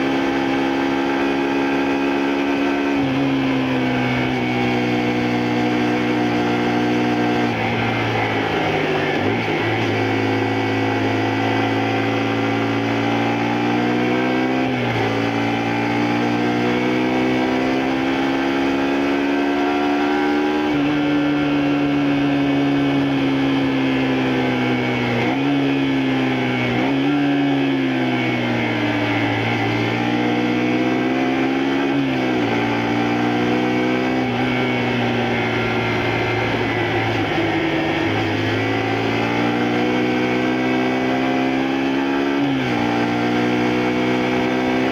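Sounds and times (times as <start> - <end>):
motorcycle engine changing gears: 0.0 - 44.9.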